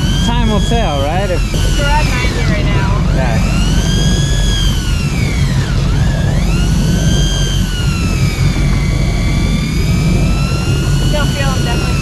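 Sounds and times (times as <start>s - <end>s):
boat engine rumble: 0.0s - 12.0s
electric fishing reel motor whining: 0.0s - 12.0s
water: 0.0s - 12.0s.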